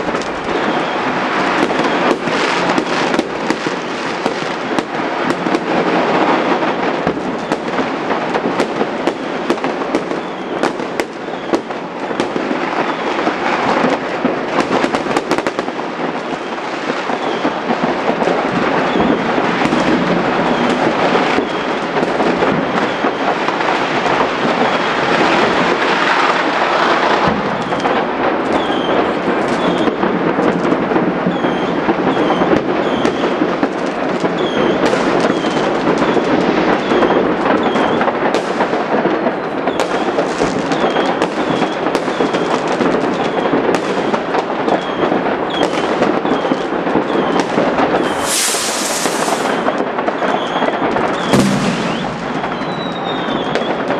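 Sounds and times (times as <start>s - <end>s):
firecracker bangs: 0.0s - 42.2s, 47.6s - 53.9s
fireworks crackling: 0.0s - 53.9s.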